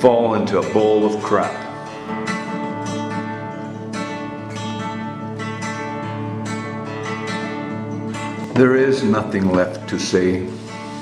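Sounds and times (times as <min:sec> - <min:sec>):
acoustic guitar strummed and picked: 0:00.0 - 0:11.0.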